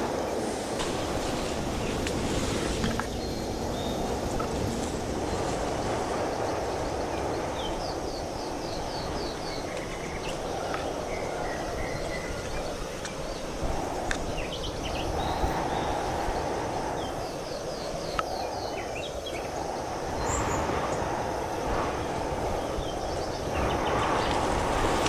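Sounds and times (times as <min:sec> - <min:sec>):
strong wind buffeting: 0:00.0 - 0:25.0.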